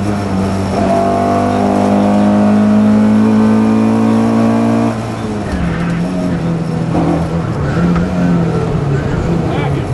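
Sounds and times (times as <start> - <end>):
rally car engine revving: 0.0 - 9.9.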